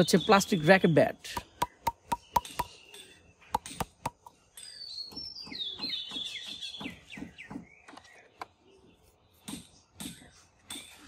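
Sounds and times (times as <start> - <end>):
bird singing falling chirps: 0.0 - 11.0.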